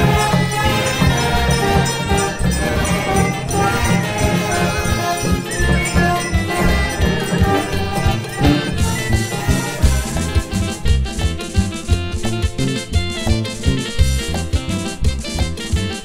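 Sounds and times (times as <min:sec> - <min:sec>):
melody notes: 0:00.0 - 0:16.0
pulsing bass: 0:00.0 - 0:16.0.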